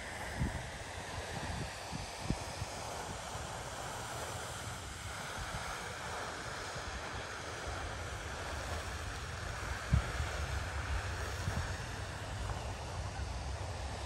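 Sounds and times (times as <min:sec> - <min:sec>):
outdoor rushing hiss: 0:00.0 - 0:14.0
wind rumbling on microphone: 0:00.0 - 0:14.0.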